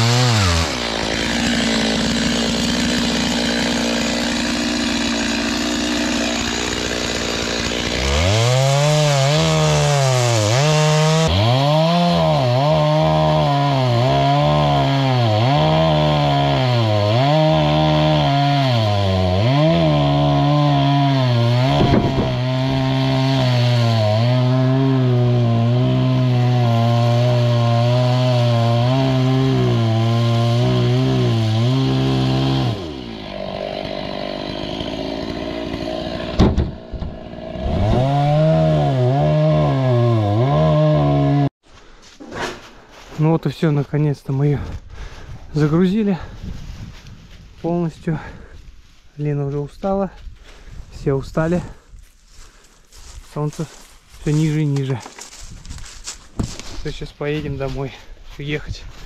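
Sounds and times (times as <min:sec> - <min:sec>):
chainsaw cutting logs: 0:00.0 - 0:41.5, 0:51.4 - 0:58.1.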